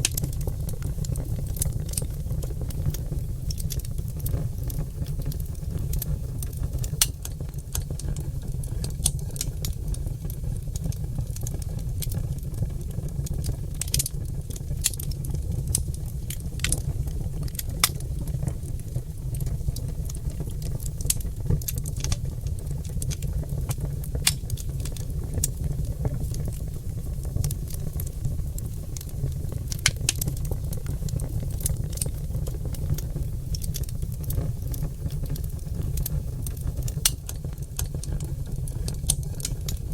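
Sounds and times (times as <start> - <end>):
logs crackling and popping: 0.0 - 39.9
low rumble of fire: 0.0 - 39.9.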